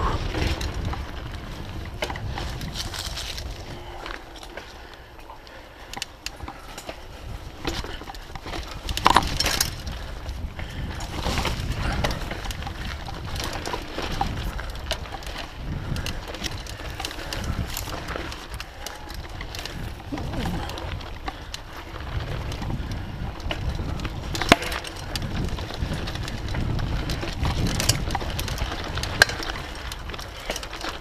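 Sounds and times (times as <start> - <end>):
wind on microphone: 0.0 - 4.1, 6.4 - 31.0
bike clicks and rattles: 0.0 - 31.0
bike tyres rumbling on dirt: 0.0 - 31.0.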